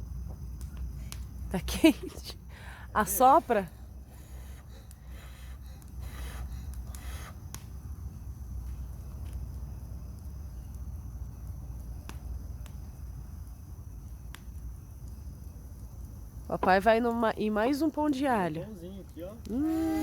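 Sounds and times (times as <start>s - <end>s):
burning logs popping: 0.0s - 20.0s
campfire crackling: 0.0s - 20.0s.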